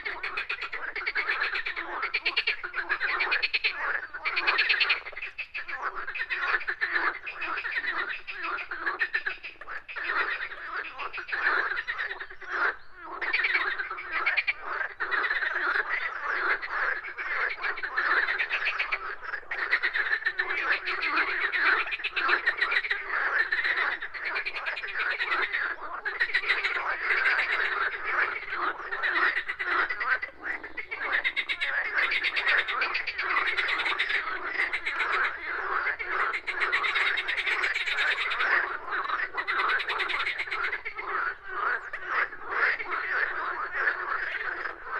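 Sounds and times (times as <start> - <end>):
chorus of frogs croaking: 0.0 - 44.9.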